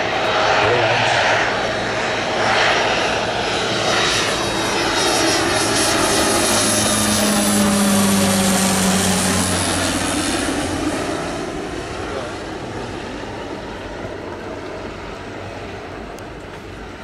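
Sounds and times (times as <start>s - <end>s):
propeller aircraft flypast drone: 0.0s - 17.0s.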